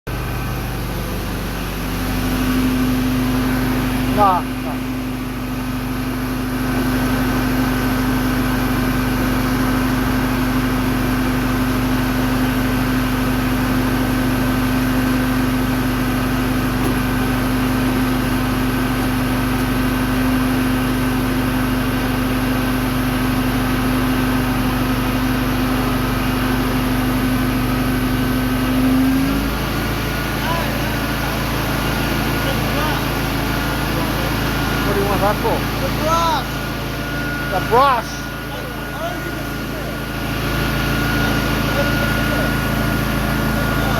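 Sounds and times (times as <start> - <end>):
cleaning machine motor humming: 0.1 - 43.9.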